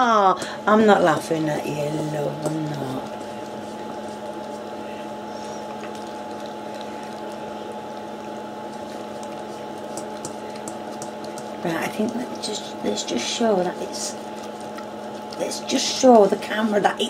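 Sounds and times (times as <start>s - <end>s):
steady hum: 0.0s - 17.0s
dog licking metal bowl: 1.2s - 16.9s.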